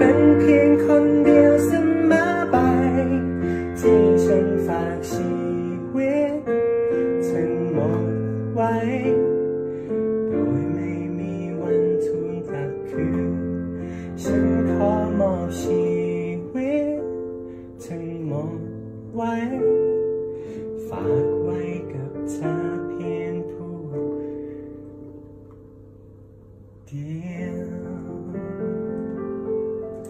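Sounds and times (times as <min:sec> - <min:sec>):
digital piano chords: 0:00.0 - 0:30.0.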